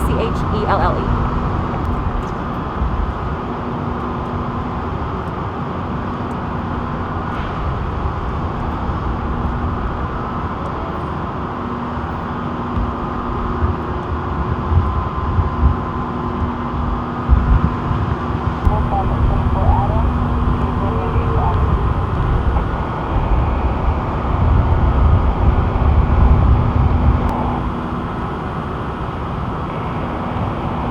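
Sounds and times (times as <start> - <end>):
constant low hum: 0.0 - 30.9
traffic rumble: 0.0 - 30.9.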